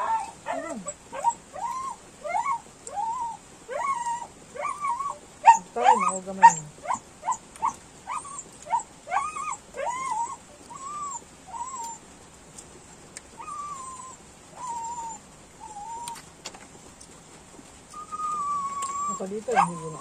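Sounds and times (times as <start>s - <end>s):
dog whimpering: 0.0s - 12.0s, 13.3s - 16.2s, 18.0s - 20.0s.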